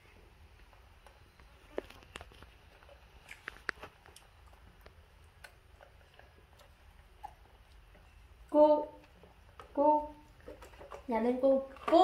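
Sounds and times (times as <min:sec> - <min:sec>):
monkeys handling snack food: 0:00.6 - 0:12.0.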